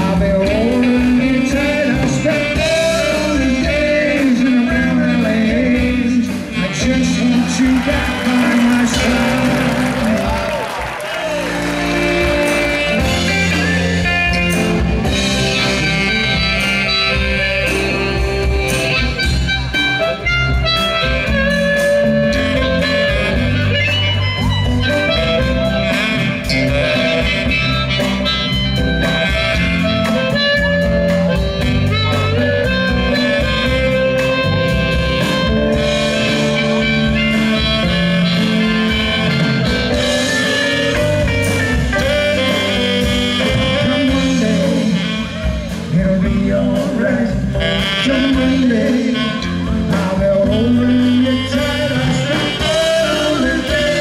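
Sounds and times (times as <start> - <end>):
live band instrumental: 0.0 - 54.0.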